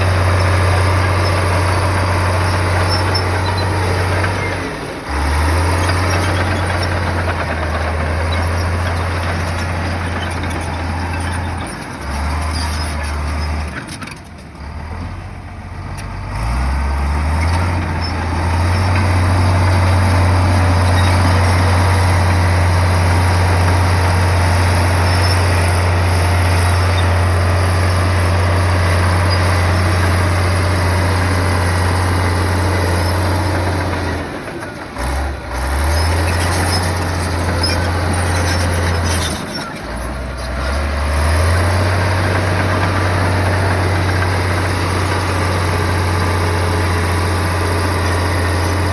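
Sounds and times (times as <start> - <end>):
heavy diesel engine droning: 0.0 - 48.9.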